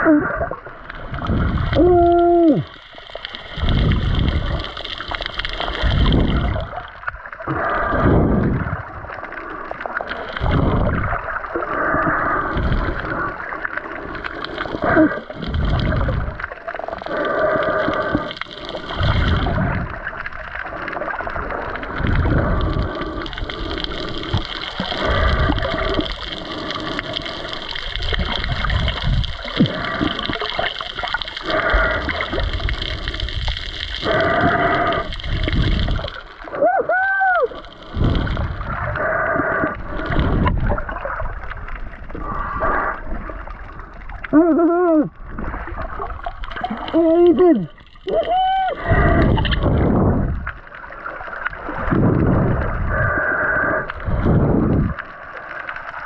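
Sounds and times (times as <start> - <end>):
underwater gurgling and bubbling: 0.0 - 56.0.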